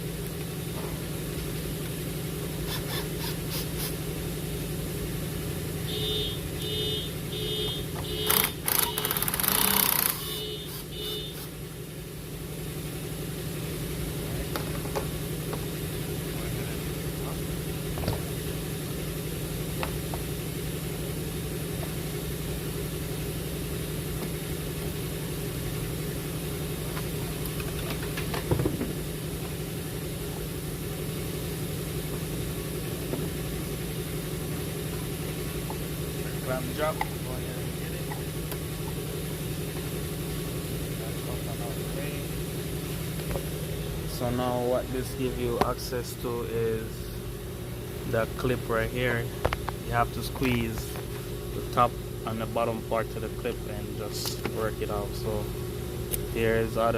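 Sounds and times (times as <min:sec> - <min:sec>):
low machine hum: 0:00.0 - 0:56.9.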